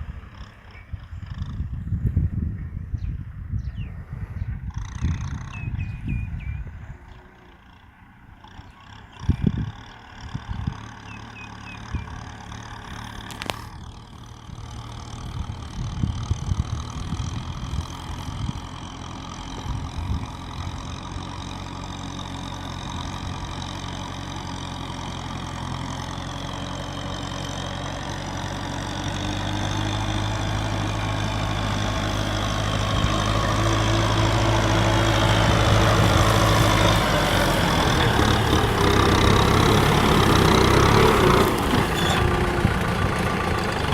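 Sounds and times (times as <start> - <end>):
tractor diesel engine: 0.0 - 43.9.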